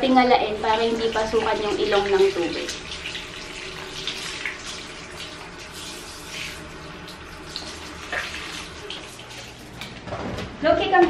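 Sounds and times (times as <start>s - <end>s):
shower head spraying water: 0.4s - 9.8s
water splashing on fur: 0.7s - 9.8s.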